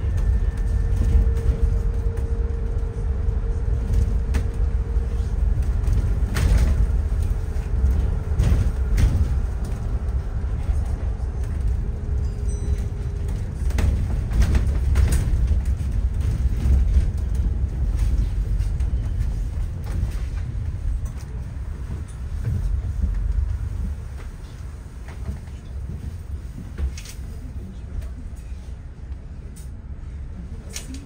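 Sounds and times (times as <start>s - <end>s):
bus engine and tyres rumbling: 0.0s - 31.0s.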